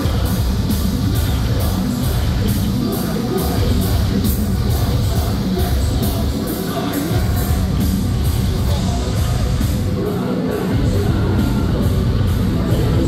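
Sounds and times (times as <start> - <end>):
person singing: 0.0 - 7.9, 8.6 - 13.0
metalcore band playing live: 0.0 - 13.0.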